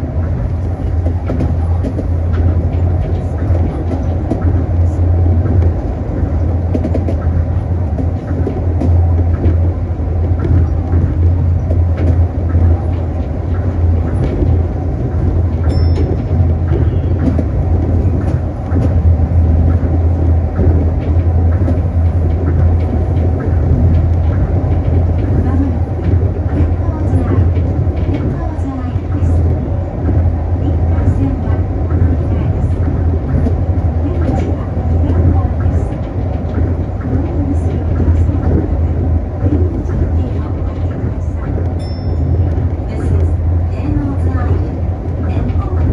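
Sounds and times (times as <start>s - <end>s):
train interior drone: 0.0s - 45.9s.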